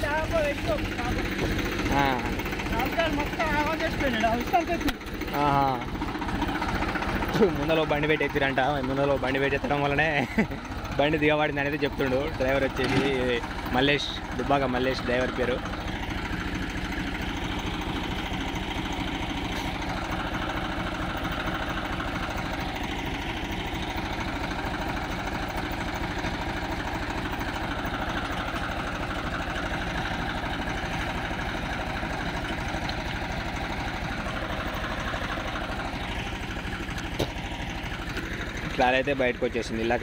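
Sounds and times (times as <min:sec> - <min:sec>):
tractor diesel engine chugging: 0:00.0 - 0:40.0.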